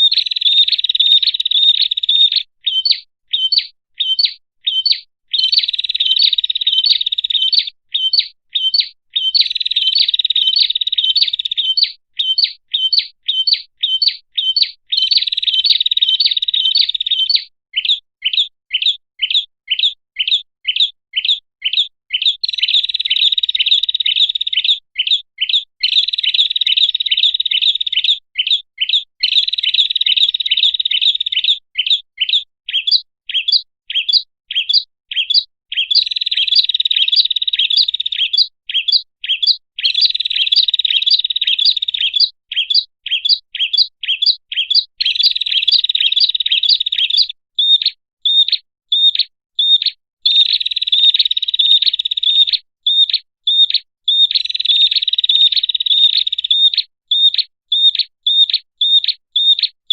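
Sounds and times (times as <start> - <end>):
bird rapid sharp chipping: 0.0 - 59.6.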